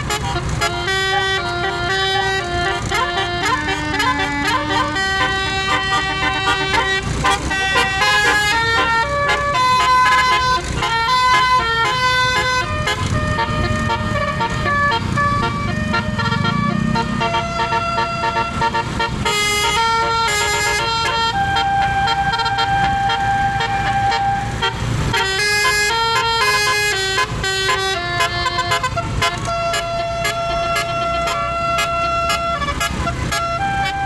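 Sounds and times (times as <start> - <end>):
bus horn playing a tune: 0.0 - 34.0.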